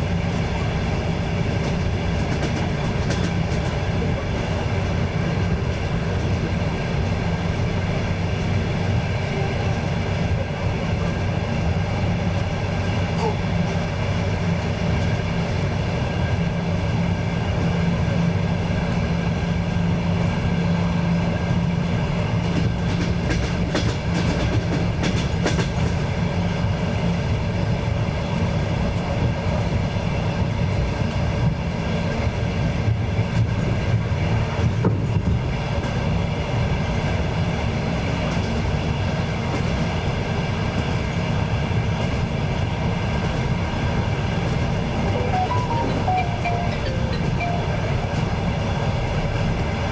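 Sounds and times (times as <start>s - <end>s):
train wheels rumbling on rails: 0.0s - 46.6s.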